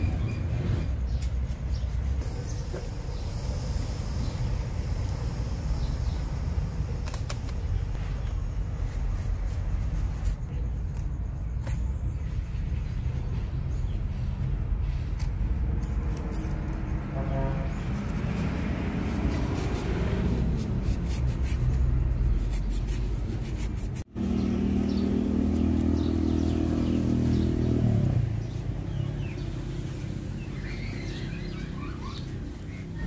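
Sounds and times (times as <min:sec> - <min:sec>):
engine rumbling: 0:00.0 - 0:33.0.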